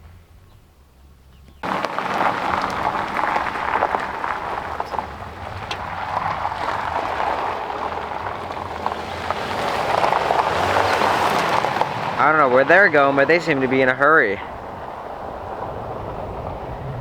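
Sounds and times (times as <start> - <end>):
tyres rolling on gravel: 0.9 - 17.0.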